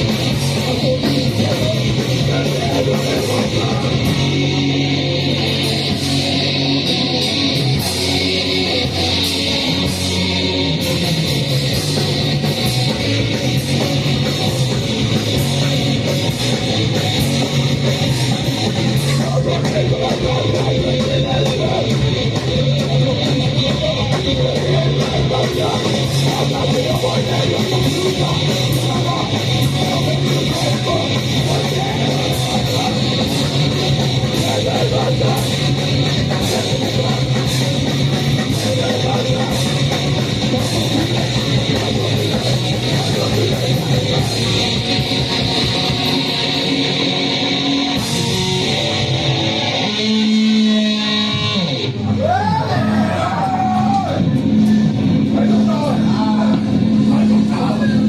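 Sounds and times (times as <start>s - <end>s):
live band playing heavy music: 0.0s - 58.0s.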